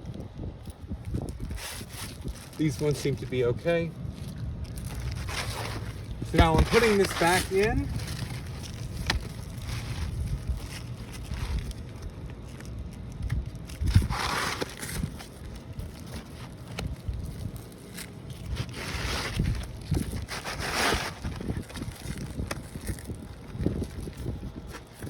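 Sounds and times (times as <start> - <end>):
wind rumble on microphone: 0.0 - 25.0
shingle scraping: 1.4 - 12.6, 13.7 - 25.0.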